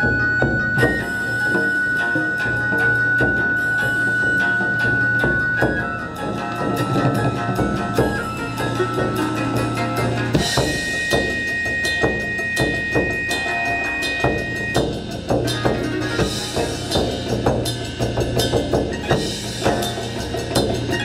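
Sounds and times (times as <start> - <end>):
held high tone: 0.0 - 17.3
taiko drums rhythm: 0.0 - 21.0.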